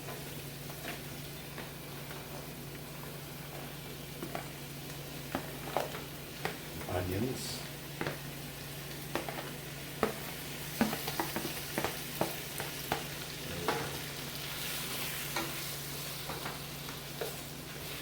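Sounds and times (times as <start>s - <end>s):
vegetables sizzling in a pan: 0.0s - 18.0s.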